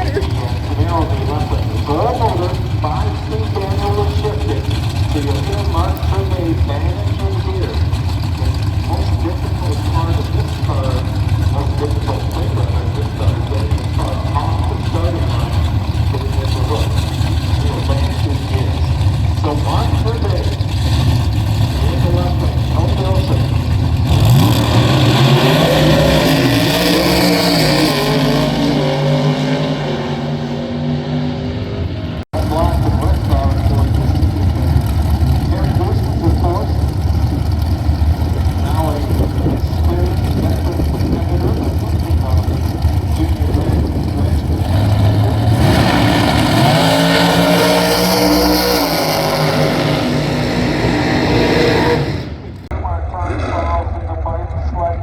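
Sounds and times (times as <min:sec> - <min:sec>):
drag car engine at full throttle: 0:00.0 - 0:55.0.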